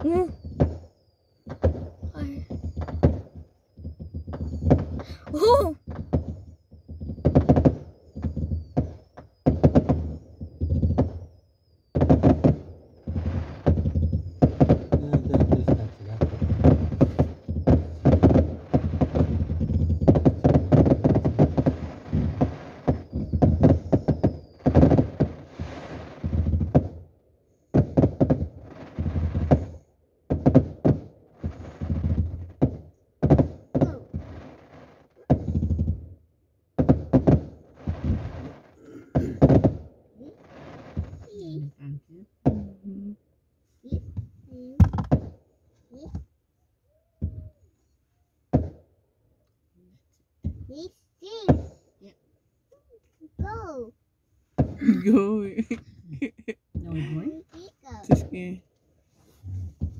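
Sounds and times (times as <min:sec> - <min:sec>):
firework booms: 0:00.0 - 0:41.8, 0:43.8 - 0:45.4, 0:48.5 - 0:48.9, 0:50.4 - 0:51.9, 0:54.5 - 0:58.6, 0:59.2 - 0:59.9
firework bursts and crackle: 0:00.0 - 0:41.8, 0:43.8 - 0:46.3, 0:47.0 - 0:48.9, 0:50.4 - 0:52.0, 0:53.3 - 0:59.9.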